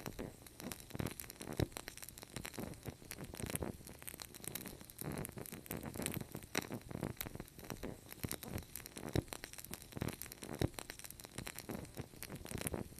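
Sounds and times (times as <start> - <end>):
wood fire crackling and popping: 0.0 - 12.9.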